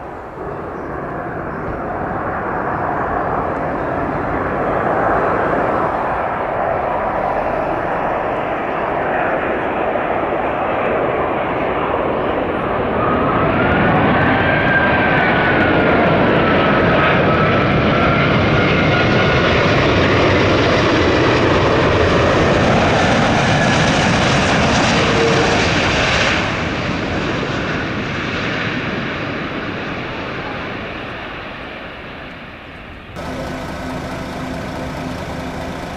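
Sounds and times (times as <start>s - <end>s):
jet engines roaring: 0.0s - 35.9s.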